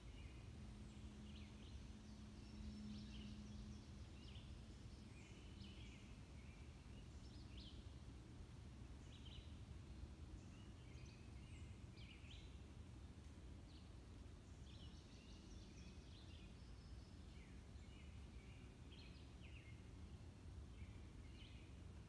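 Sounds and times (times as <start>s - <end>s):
faint songbirds chirping: 0.0s - 22.0s
low steady background rumble: 0.0s - 22.0s.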